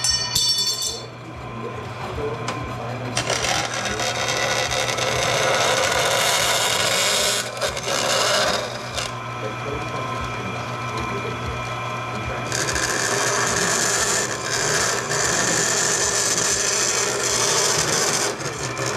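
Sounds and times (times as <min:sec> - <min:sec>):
bandsaw cutting metal sheet: 0:00.0 - 0:18.9
saw motor humming: 0:00.0 - 0:18.9.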